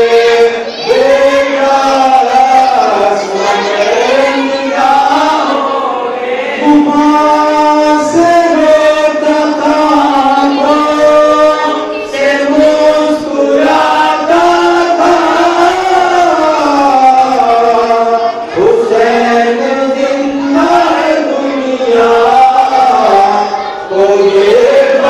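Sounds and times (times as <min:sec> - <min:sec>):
group chanting: 0:00.0 - 0:25.0
lead voice through microphone: 0:00.0 - 0:25.0.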